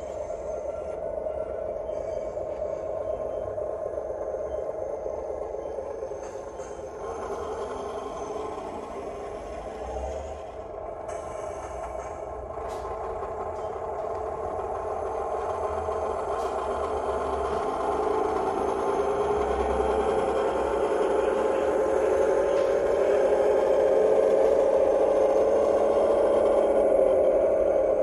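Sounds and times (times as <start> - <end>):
model train diesel engine sound: 0.0 - 28.0.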